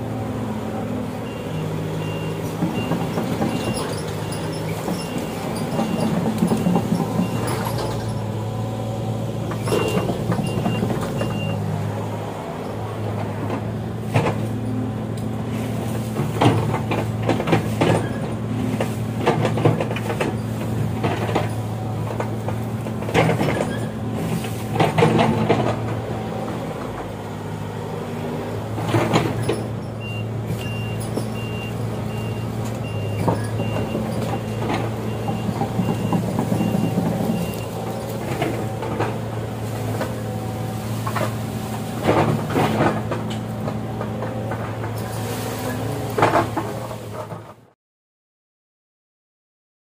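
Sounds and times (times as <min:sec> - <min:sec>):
diesel machinery running: 0:00.0 - 0:47.7.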